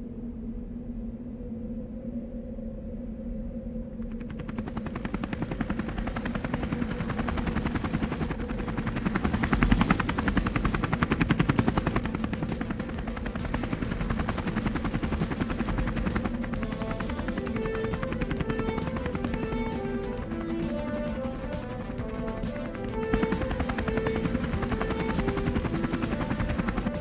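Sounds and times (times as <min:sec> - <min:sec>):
drone propellers buzzing: 0:04.1 - 0:27.0.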